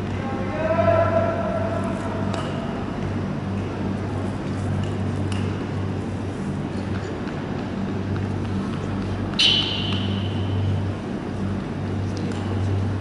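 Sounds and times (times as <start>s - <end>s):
low hall hum: 0.0s - 13.0s.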